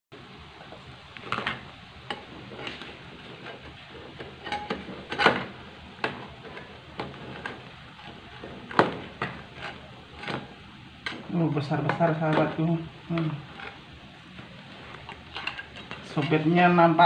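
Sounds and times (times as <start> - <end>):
faint steady hiss: 0.1 - 17.0.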